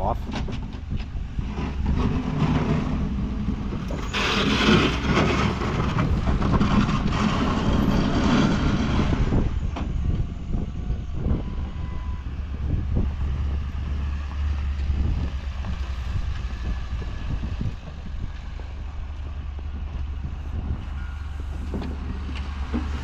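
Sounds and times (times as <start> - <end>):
snowplow engine running: 0.2 - 23.0.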